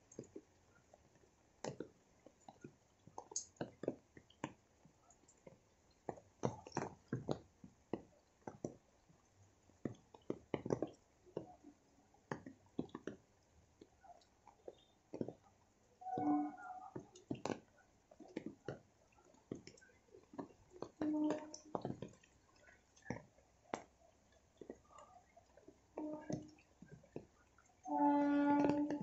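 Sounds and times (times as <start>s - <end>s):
raindrops dripping from leaves: 0.0s - 29.0s.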